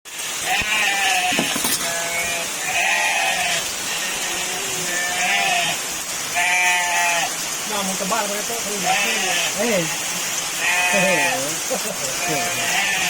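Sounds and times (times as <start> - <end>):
heavy rain hiss: 0.1 - 13.0
goats bleating: 0.4 - 7.4, 8.7 - 13.0.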